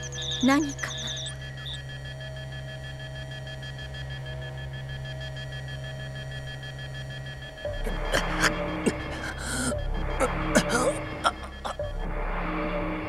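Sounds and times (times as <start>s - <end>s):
thin high pulsing tones: 0.0s - 12.2s
electronic machinery hum: 0.0s - 13.0s.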